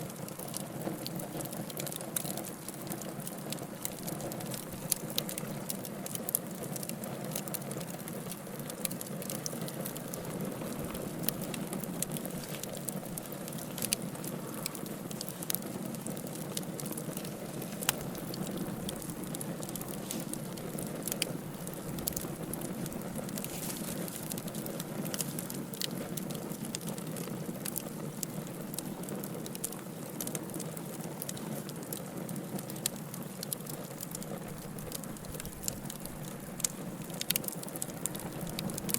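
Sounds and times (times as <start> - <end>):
logs crackling and popping: 0.0 - 38.9
wood fire flames hissing: 0.0 - 38.9.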